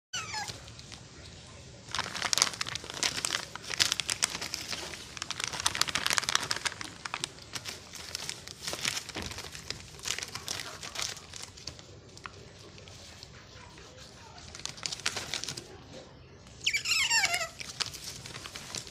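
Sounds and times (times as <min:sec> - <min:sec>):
plastic bag crinkling: 0:00.2 - 0:15.8, 0:16.6 - 0:18.9.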